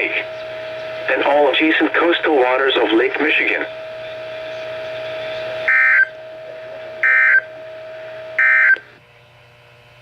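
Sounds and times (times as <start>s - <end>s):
warbling digital data tones: 0.0s - 8.9s.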